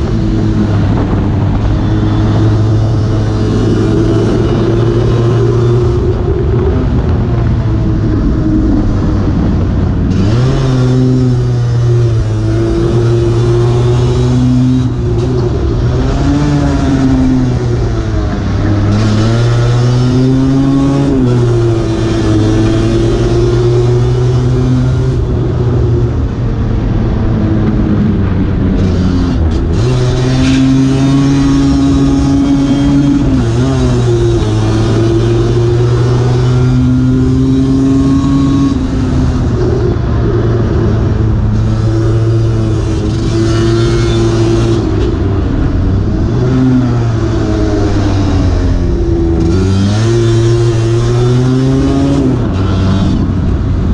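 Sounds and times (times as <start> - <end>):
two-stroke scooter engine racing: 0.0 - 53.9.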